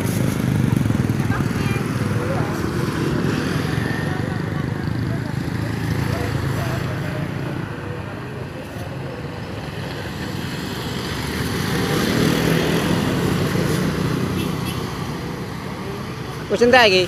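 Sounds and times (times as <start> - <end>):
motor scooters passing: 0.0 - 17.0.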